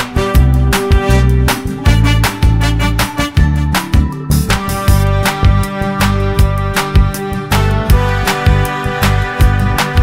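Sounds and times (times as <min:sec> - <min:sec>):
upbeat music with plucked guitar: 0:00.0 - 0:10.0.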